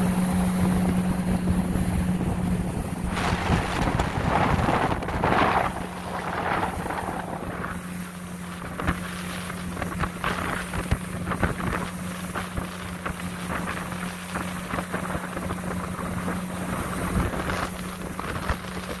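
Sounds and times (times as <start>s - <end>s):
boat engine running: 0.0s - 19.0s
wind noise on microphone: 0.4s - 19.0s.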